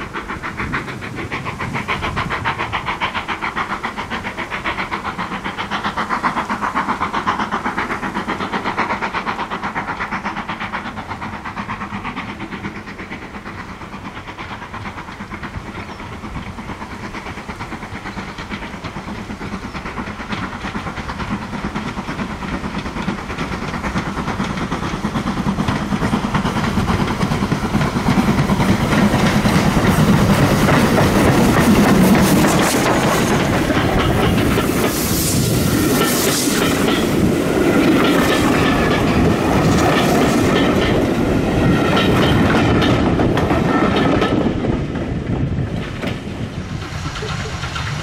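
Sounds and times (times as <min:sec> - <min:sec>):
coach wheels clattering on rail joints: 0:00.0 - 0:48.0
steam locomotive exhaust: 0:00.0 - 0:48.0.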